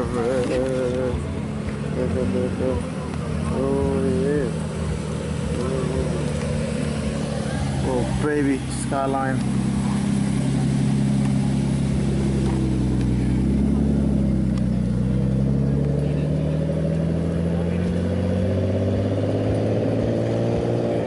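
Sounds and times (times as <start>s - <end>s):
car engine revving gently: 0.0s - 21.0s.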